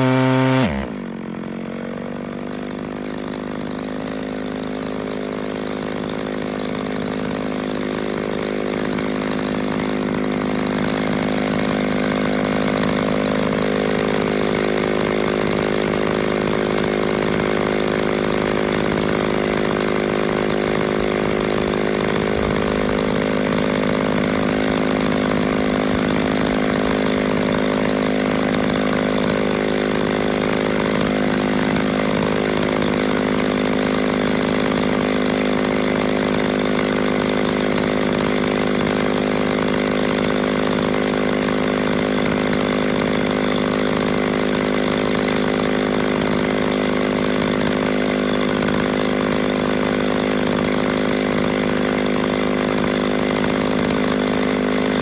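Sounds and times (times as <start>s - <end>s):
chainsaw idling: 0.0s - 55.0s.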